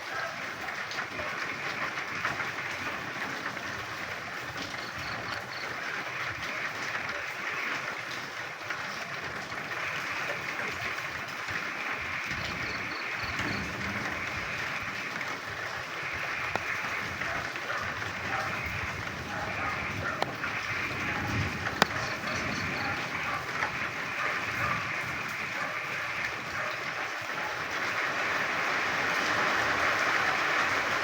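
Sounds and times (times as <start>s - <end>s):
rain falling: 0.0s - 31.0s
frogs croaking: 0.1s - 31.0s.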